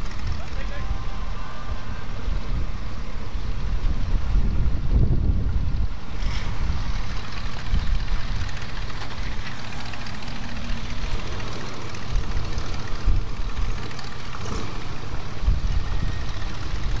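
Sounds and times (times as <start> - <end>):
car engines pulling away: 0.0 - 17.0.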